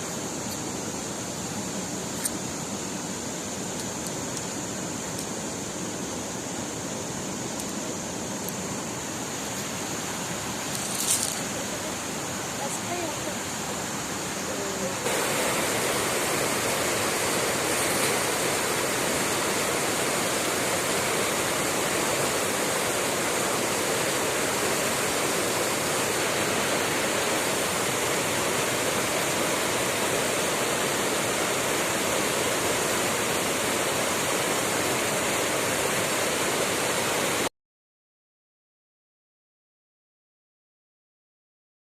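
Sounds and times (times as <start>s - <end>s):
river water rushing: 0.0s - 37.5s.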